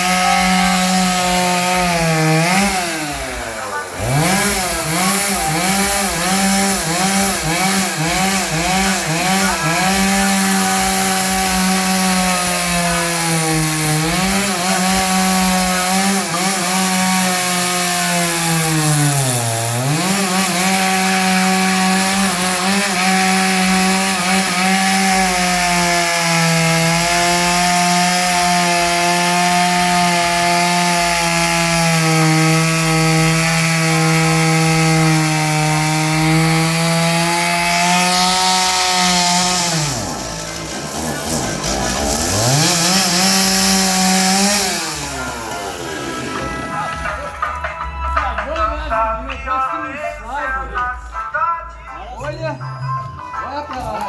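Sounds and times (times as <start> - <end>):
chainsaw cutting wood: 0.0 - 48.6.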